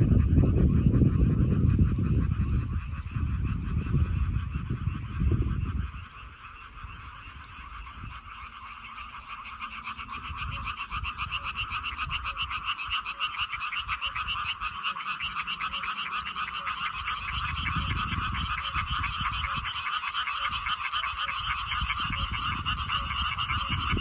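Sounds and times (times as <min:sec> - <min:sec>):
frogs croaking: 0:00.0 - 0:24.0.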